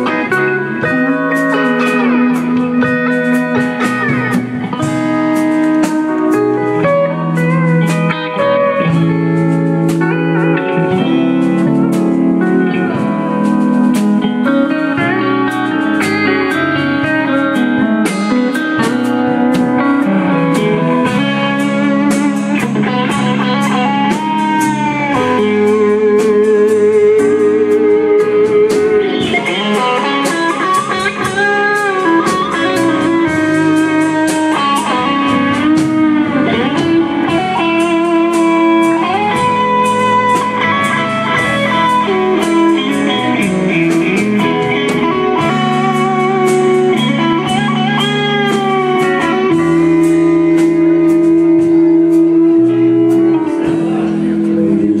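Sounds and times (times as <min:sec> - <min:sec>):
bass guitar: 0:00.0 - 0:55.0
electric guitar lead: 0:00.0 - 0:55.0
steady drum beat: 0:00.0 - 0:55.0.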